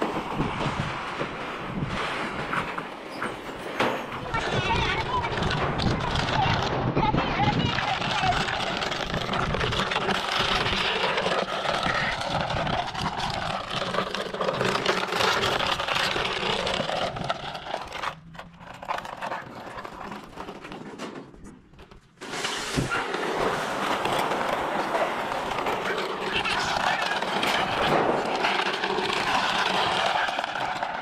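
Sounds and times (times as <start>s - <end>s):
plastic crate scraping on concrete: 0.0s - 31.0s.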